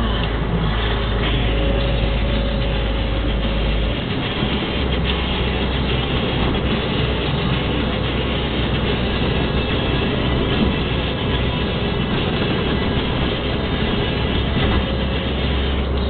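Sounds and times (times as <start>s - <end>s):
road noise: 0.0s - 16.0s
truck engine droning: 0.0s - 16.0s.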